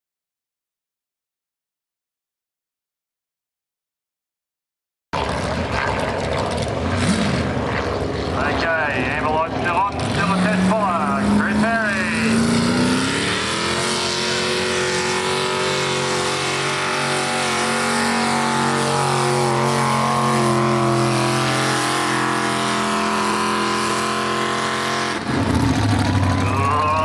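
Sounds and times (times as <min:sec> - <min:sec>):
rough engine noise: 0:05.2 - 0:27.0
tractor engine at high revs: 0:05.2 - 0:27.0.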